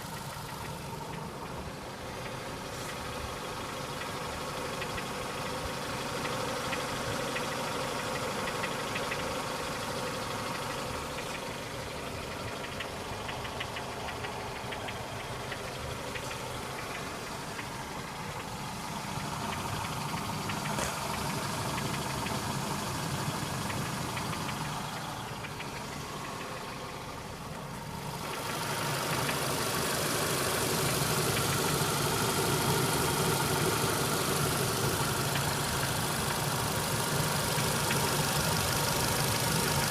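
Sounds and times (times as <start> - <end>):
repeated engine knock: 0.0 - 39.9
vehicle engine running: 0.0 - 39.9.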